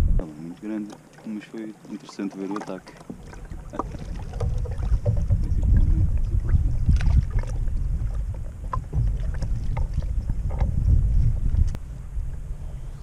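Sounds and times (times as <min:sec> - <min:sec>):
wind buffeting microphone: 0:00.0 - 0:00.9, 0:02.6 - 0:13.0.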